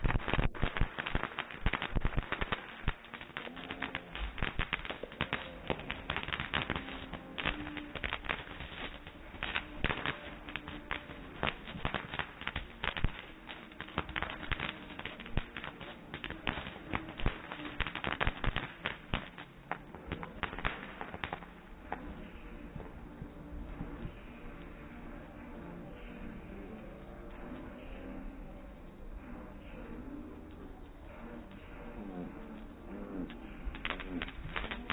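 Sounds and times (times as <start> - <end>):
fireworks fountains crackling: 0.0 - 34.9.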